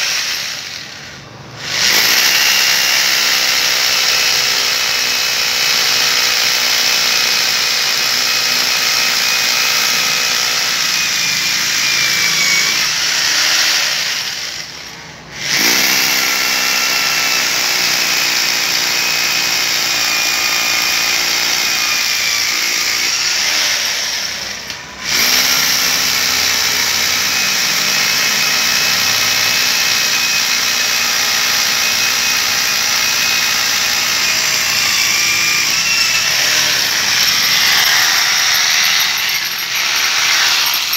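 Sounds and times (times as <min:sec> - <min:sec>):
rotary hammer drilling concrete: 0:00.0 - 0:40.9.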